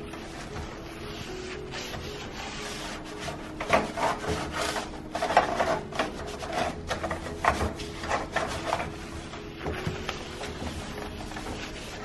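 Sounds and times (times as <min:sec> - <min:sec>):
sponge scrubbing glass: 0:00.0 - 0:12.0.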